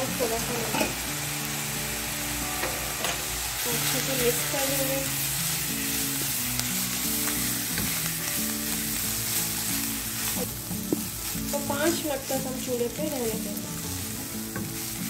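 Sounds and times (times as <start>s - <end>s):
food sizzling in a frying pan: 0.0s - 15.0s
soft background music: 0.0s - 15.0s.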